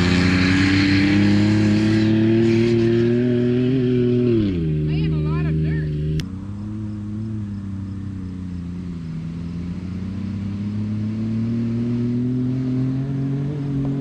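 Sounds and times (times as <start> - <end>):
engine accelerating under load: 0.0 - 14.0.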